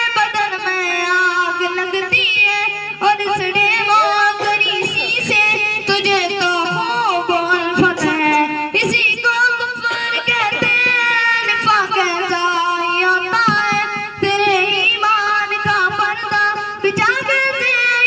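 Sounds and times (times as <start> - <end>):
boys singing devotional poem: 0.0 - 18.0.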